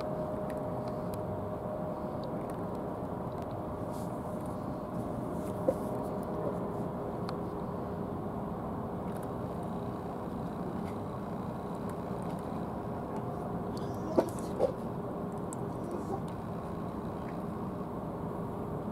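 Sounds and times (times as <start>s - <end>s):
faint even hum: 0.0s - 18.9s
outdoor background rumble: 0.0s - 18.9s.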